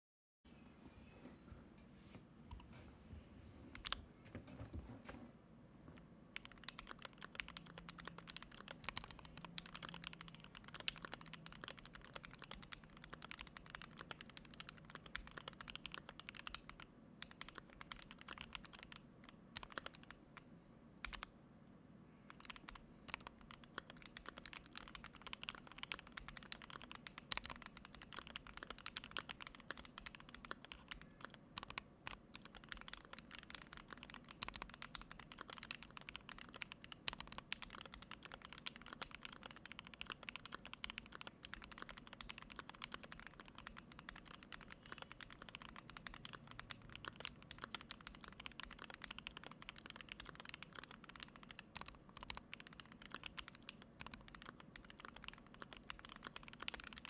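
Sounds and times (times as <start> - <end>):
mechanical keyboard typing: 6.4 - 21.3, 22.3 - 57.0.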